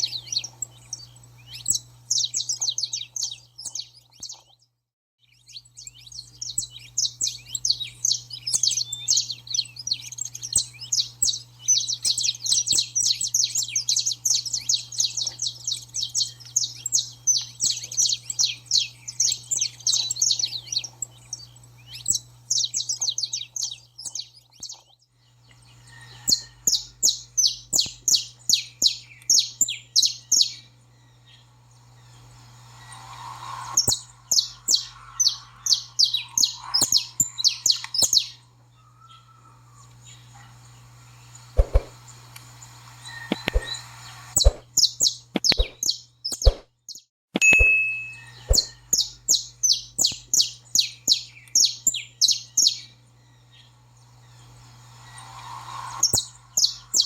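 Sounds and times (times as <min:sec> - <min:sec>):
finch singing high chirps: 0:00.0 - 0:41.9, 0:42.6 - 0:57.0.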